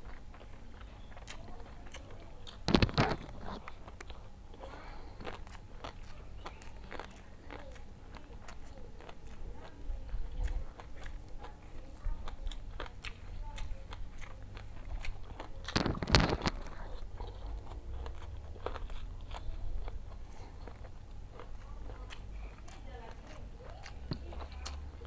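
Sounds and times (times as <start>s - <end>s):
wet chewing with mouth clicks: 0.0s - 25.0s.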